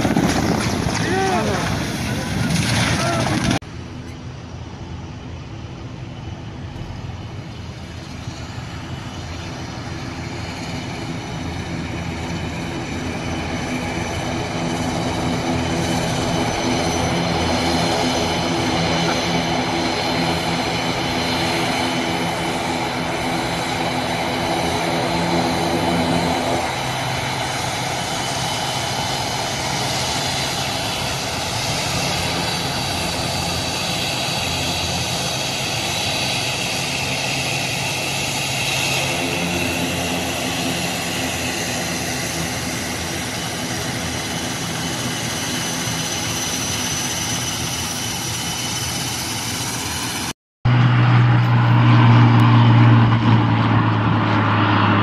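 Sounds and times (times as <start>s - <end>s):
turboprop engines running: 0.0s - 55.0s.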